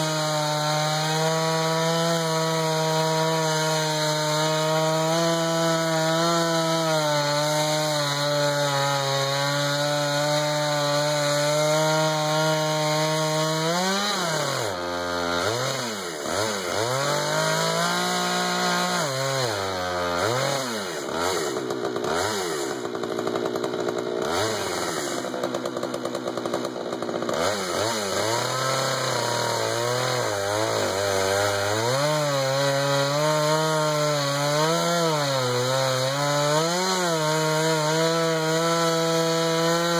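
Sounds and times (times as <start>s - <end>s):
chainsaw ripping through wood: 0.0s - 39.9s.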